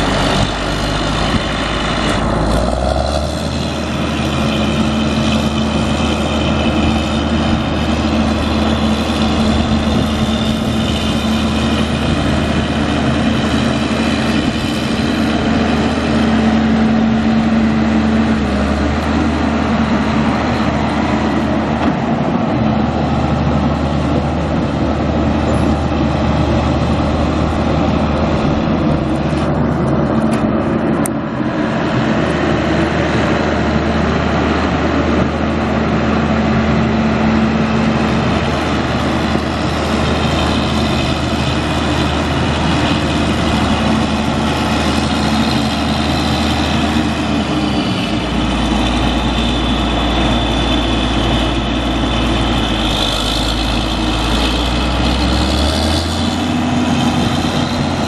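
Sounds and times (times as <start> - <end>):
diesel tractor engine running: 0.0 - 58.0
high-pitched whine: 0.0 - 58.0.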